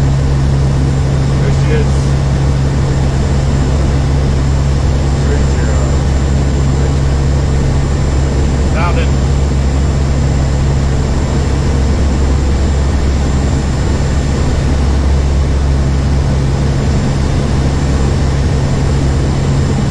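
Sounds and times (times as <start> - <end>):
aircraft engine and propeller hum: 0.0 - 19.9
constant rush of noise: 0.0 - 19.9.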